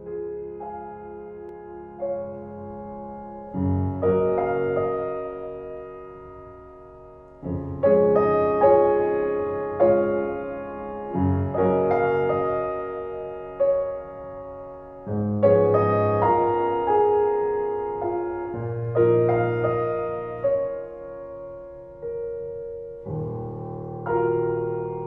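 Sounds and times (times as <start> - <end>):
soft piano chords: 0.0 - 25.0.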